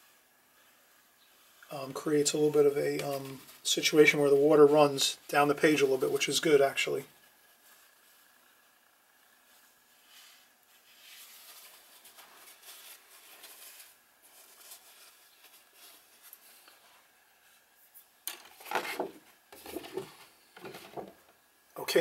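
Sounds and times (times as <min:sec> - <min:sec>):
paper tissue rustling: 0:00.0 - 0:21.2
crinkling and handling noise: 0:00.0 - 0:22.0.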